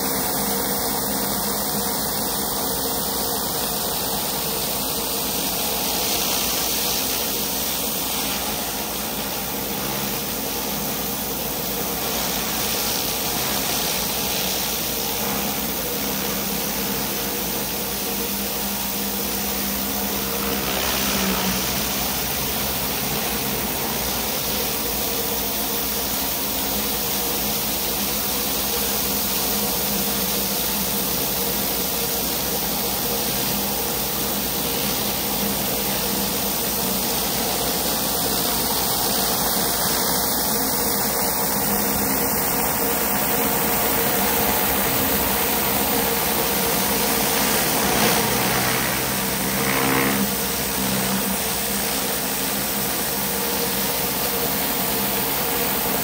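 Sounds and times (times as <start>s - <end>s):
pressure washer engine hum: 0.0s - 56.0s
water spray hissing on concrete: 0.0s - 56.0s.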